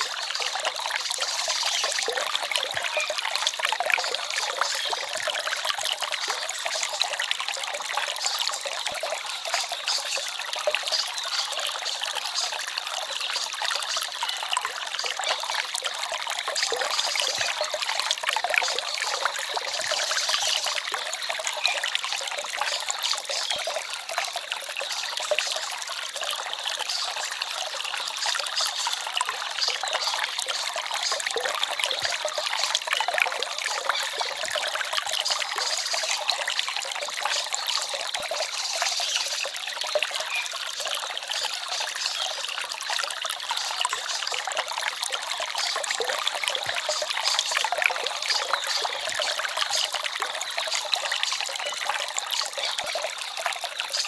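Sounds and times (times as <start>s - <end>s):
stream trickling and babbling: 0.0s - 54.0s.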